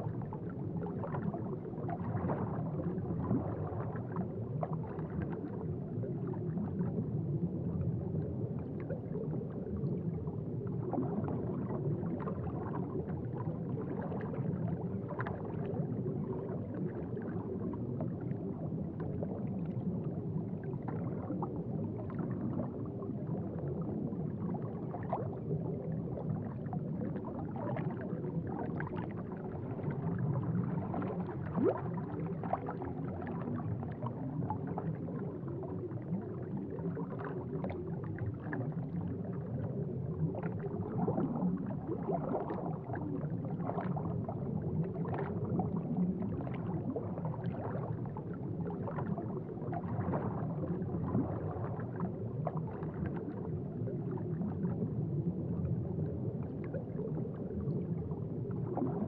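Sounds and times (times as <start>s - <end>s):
aquarium water bubbling: 0.0s - 59.0s.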